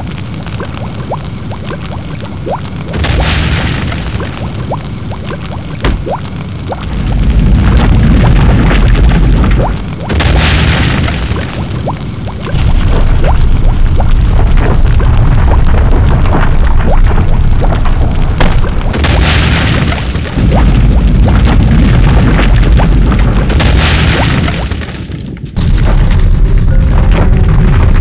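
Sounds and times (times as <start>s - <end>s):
booming rumble: 2.9s - 28.0s.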